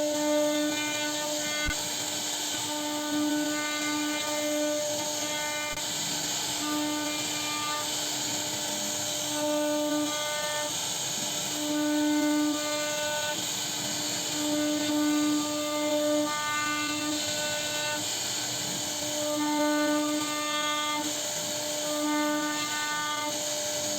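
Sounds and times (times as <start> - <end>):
router spindle cutting wood: 0.0 - 23.9.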